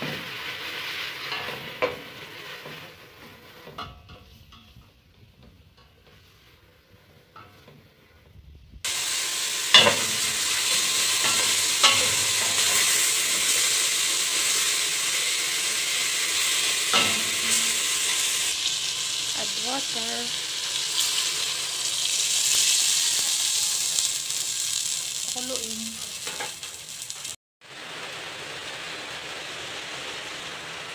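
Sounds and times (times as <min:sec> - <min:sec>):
chicken sizzling in hot oil: 0:00.0 - 0:03.8, 0:08.8 - 0:30.9.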